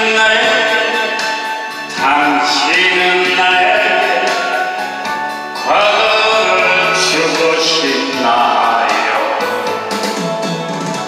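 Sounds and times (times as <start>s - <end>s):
man singing into a microphone: 0.0s - 9.9s
karaoke backing track: 0.0s - 11.0s.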